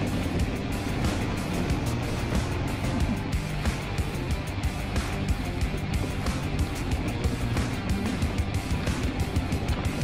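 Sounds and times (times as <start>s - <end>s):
background music: 0.0s - 10.0s
motorcycle engine running: 0.0s - 10.0s.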